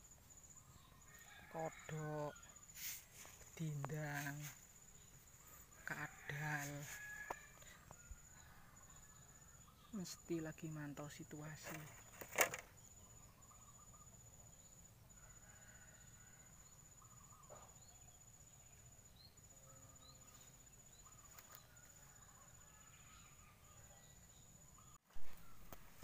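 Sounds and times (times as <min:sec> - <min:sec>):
distant bird chirps: 0:00.0 - 0:14.9, 0:15.6 - 0:26.0
high-pitched insect trill: 0:00.0 - 0:24.9.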